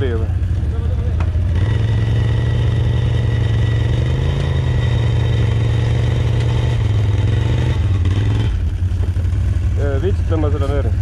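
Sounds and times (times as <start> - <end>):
quad engine at high revs: 0.0 - 11.0.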